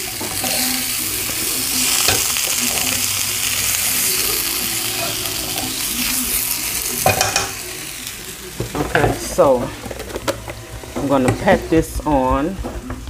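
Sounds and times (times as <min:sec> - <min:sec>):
potatoes sizzling in a pan: 0:00.0 - 0:13.0.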